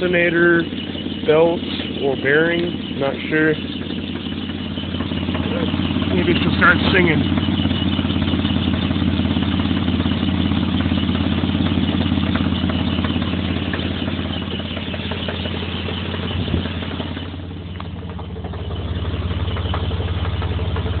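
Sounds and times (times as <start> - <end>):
engine idling with rhythmic knock: 0.0 - 21.0.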